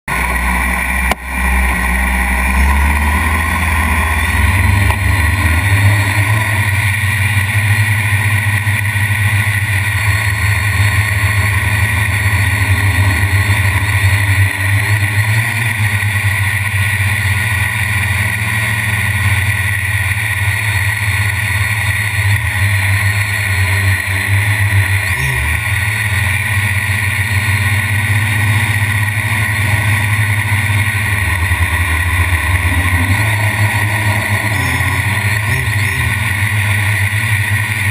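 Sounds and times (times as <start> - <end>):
quadcopter motors whirring: 2.1 - 37.9.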